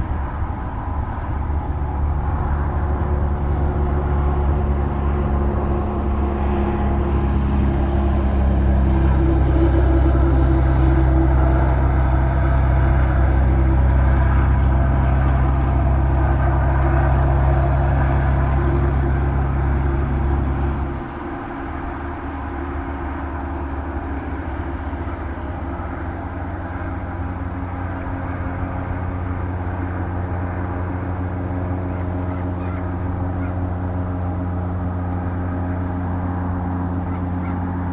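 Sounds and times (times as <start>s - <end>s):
jet engine rumble: 0.0s - 37.9s.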